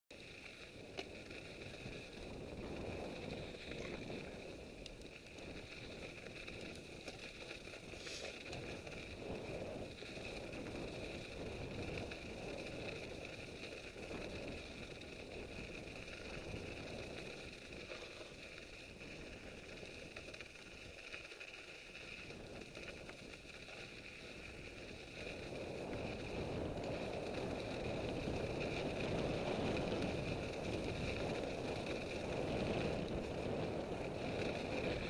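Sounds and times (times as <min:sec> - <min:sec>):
bike tyres rumbling on snow: 0:00.1 - 0:35.0.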